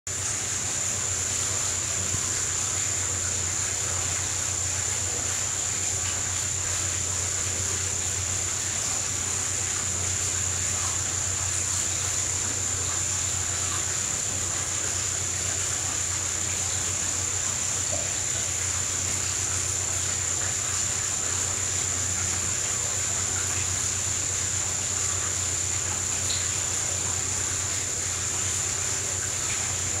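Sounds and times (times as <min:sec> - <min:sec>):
steady machine hum: 0:00.1 - 0:30.0.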